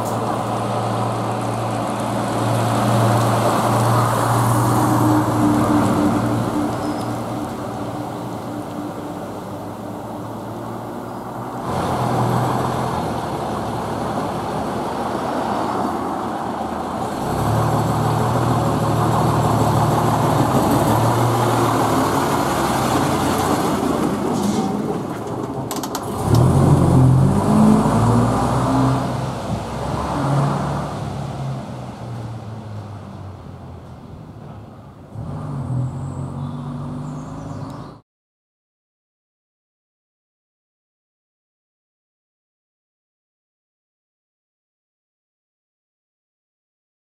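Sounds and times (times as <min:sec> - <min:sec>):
bus engine running: 0:00.0 - 0:37.9.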